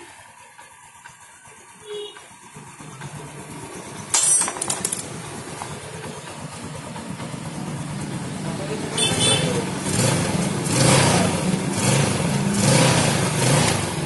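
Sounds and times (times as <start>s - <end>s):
loud engine clattering: 0.0s - 14.0s
motorcycle engine starting and running: 0.0s - 14.0s.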